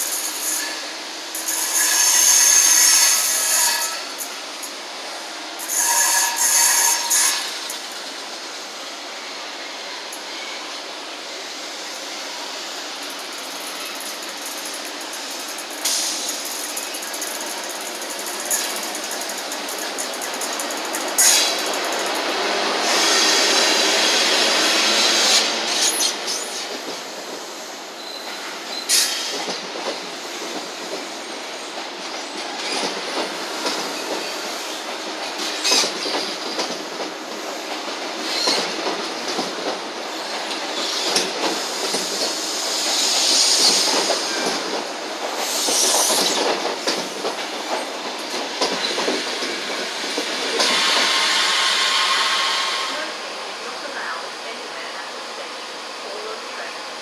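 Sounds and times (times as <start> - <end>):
train wheels clicking on rails: 0.0 - 9.0, 11.8 - 55.5.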